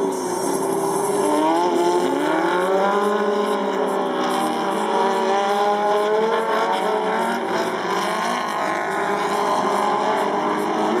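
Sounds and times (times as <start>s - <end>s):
buggy engines revving: 0.0s - 11.0s.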